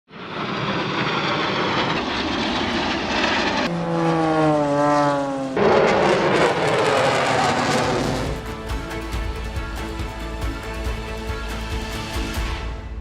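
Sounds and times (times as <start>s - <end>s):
aircraft engine noise: 0.1s - 13.0s
plane passing by: 0.1s - 13.0s.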